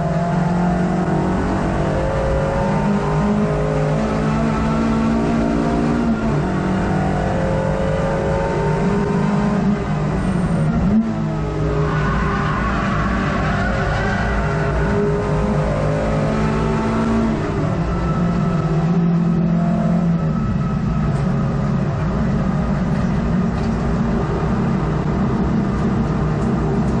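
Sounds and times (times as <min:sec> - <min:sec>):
race car engine from cabin: 0:00.0 - 0:27.0.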